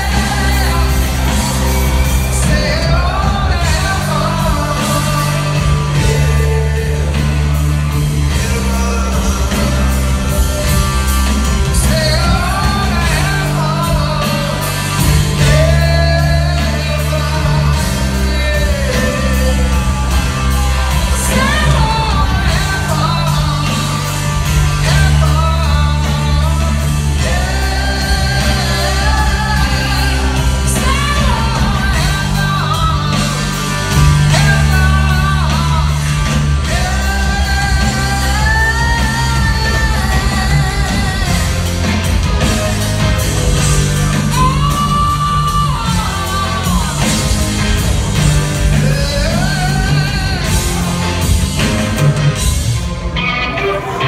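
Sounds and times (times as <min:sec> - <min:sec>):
man singing: 0:00.0 - 0:52.1
live rock band: 0:00.0 - 0:54.0.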